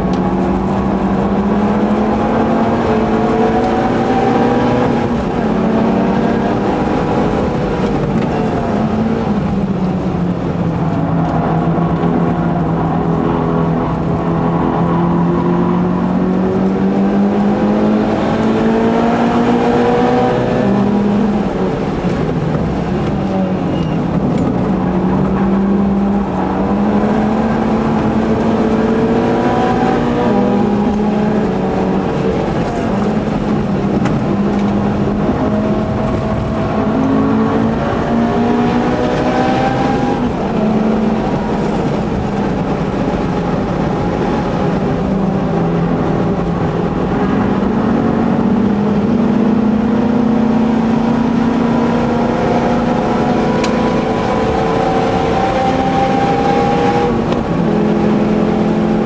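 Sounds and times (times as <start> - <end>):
car engine accelerating: 0.0 - 59.0
road and wind noise: 0.0 - 59.0.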